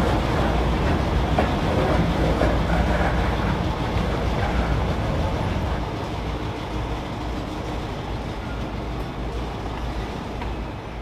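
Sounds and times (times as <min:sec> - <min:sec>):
faint train clanks: 0:00.0 - 0:11.0
freight train rumbling: 0:00.0 - 0:11.0.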